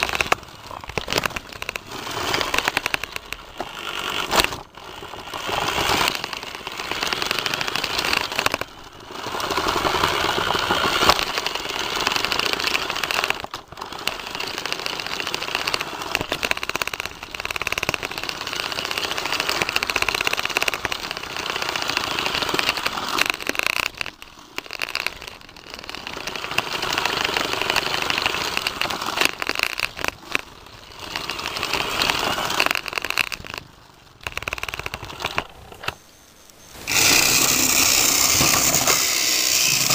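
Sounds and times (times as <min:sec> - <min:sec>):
toy monorail motor whirring: 0:00.0 - 0:39.9.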